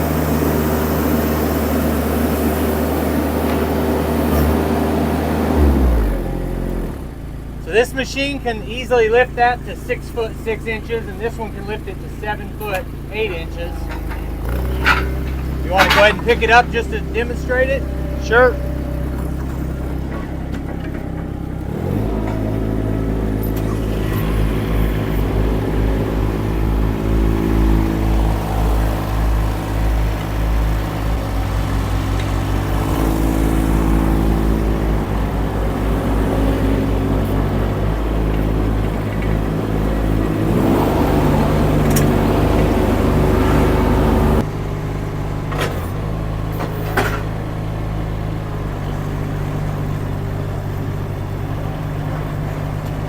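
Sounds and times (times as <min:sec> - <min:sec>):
skid steer engine under load: 0:00.0 - 0:53.0.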